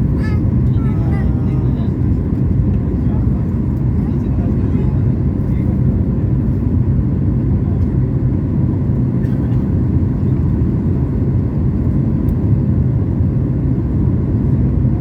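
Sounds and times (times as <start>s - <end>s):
low rumble of engines and airflow: 0.0s - 15.0s.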